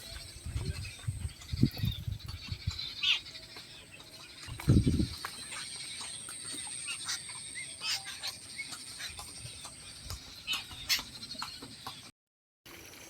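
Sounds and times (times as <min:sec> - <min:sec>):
birds chirping and clicking: 0:00.0 - 0:12.1.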